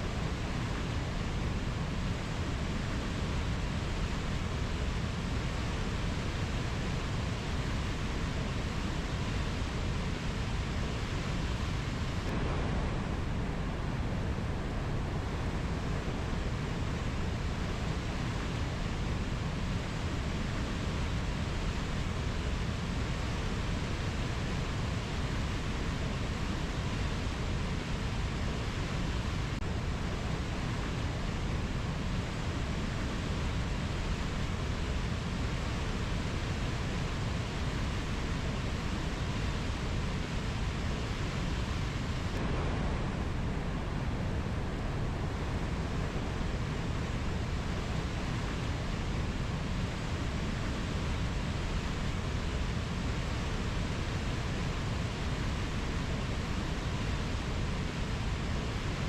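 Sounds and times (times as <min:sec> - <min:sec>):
rainforest ambience rushing noise: 0:00.0 - 0:59.0.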